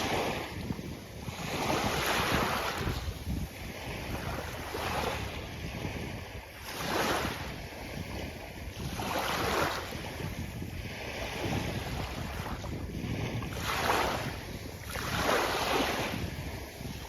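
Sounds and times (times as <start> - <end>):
waves washing onto beach: 0.0 - 17.0
wind buffeting microphone: 0.0 - 17.0.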